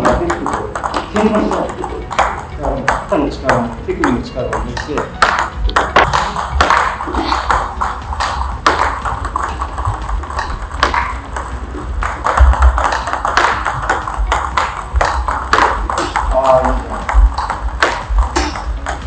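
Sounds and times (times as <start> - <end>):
table tennis balls clicking: 0.0 - 19.0.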